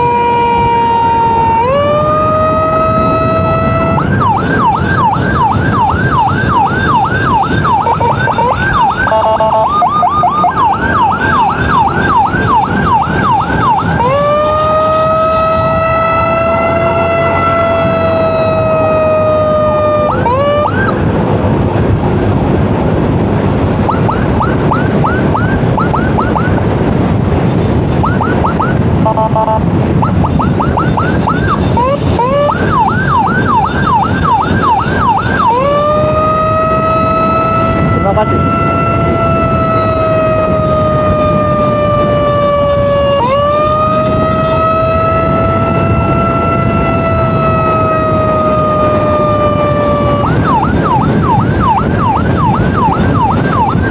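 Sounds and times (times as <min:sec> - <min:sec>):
emergency siren yelping: 0:00.0 - 0:21.3, 0:23.6 - 0:26.8, 0:28.0 - 0:53.9
steady siren horn blast: 0:00.0 - 0:21.3, 0:23.7 - 0:53.9
motorcycle engine: 0:00.0 - 0:53.9
traffic noise: 0:00.0 - 0:53.9.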